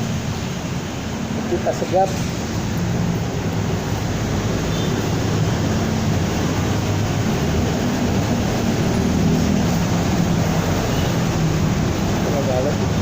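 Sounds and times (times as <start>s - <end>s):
wind and tyre rush: 0.0s - 13.0s.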